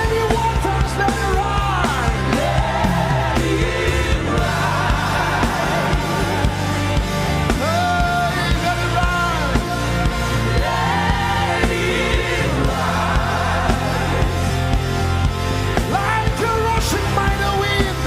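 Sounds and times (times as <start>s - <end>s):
band bass and drum beat: 0.0s - 18.0s
voices singing: 0.0s - 18.0s.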